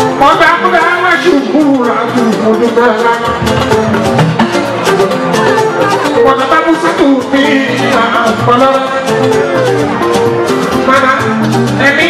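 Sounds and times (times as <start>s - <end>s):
loud music with fast drumming: 0.0s - 12.0s.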